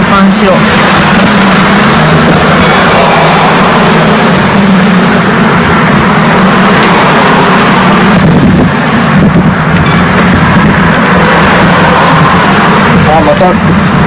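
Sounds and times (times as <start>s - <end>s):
road traffic noise: 0.0s - 14.0s
wind on microphone: 0.0s - 14.0s.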